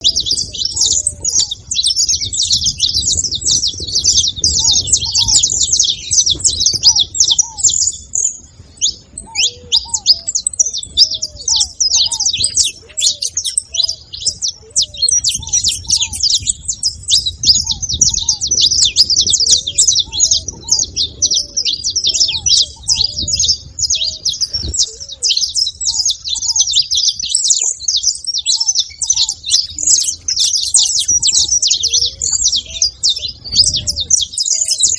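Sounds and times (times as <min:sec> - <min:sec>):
finches chirping and singing: 0:00.0 - 0:34.9.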